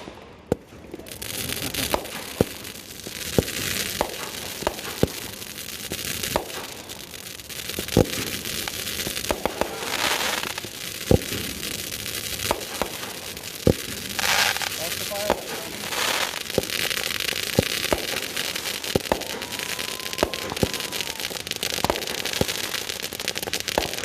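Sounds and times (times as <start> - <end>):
fireworks banging: 0.0 - 24.0
fireworks crackling: 0.0 - 24.0.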